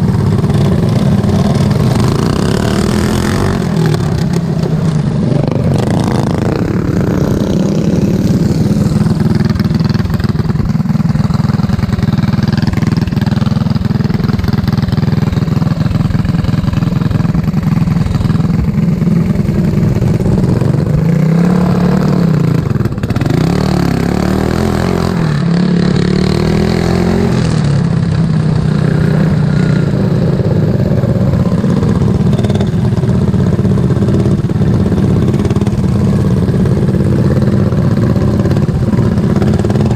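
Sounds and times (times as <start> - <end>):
lawn mower engine running hard: 0.0 - 39.9.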